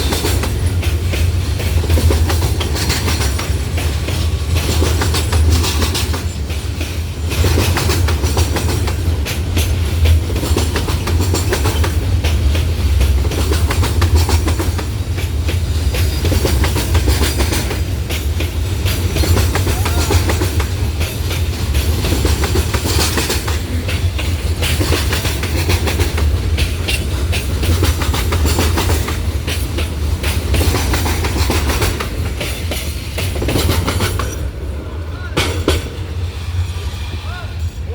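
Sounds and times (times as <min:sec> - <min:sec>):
wheel clatter over rails: 0:00.0 - 0:36.2
freight train rumbling: 0:00.0 - 0:37.9.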